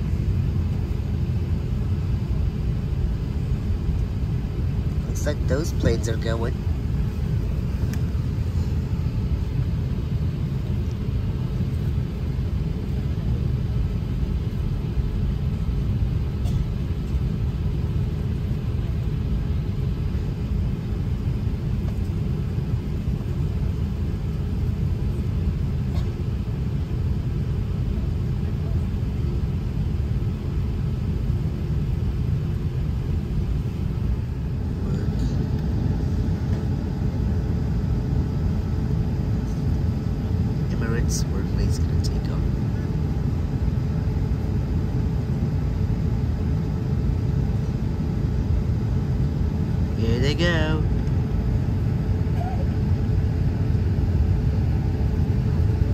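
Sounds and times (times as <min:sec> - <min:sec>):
cabin air noise: 0:00.0 - 0:55.9
jet engines idling: 0:00.0 - 0:55.9.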